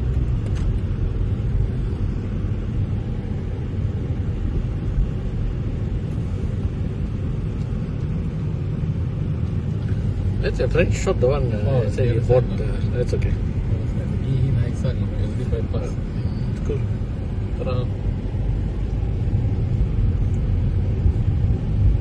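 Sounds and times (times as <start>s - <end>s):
car driving from inside cabin: 0.0s - 22.0s.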